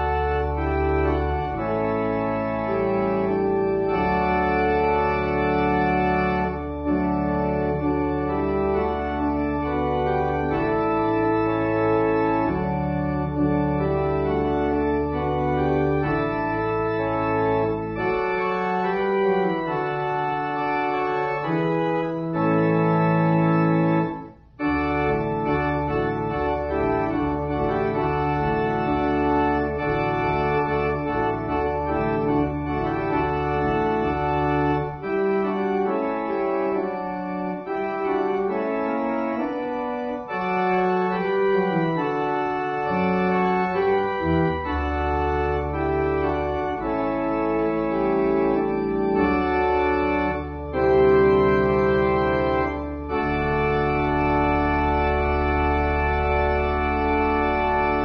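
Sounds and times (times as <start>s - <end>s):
organ playing sustained chords: 0.0s - 58.0s.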